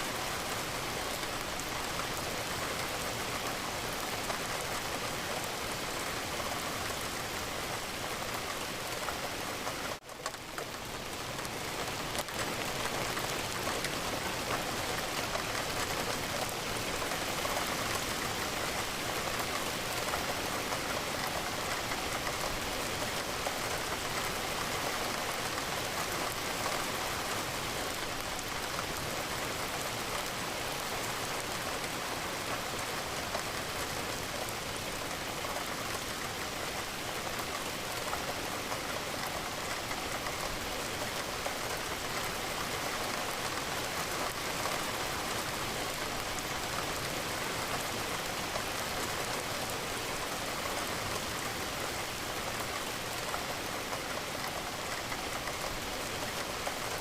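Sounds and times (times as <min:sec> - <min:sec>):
rain against a window: 0:00.1 - 0:57.0.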